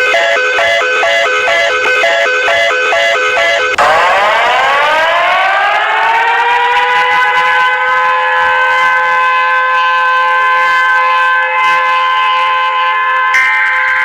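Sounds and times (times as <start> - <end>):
emergency alert siren: 0.0 - 14.0.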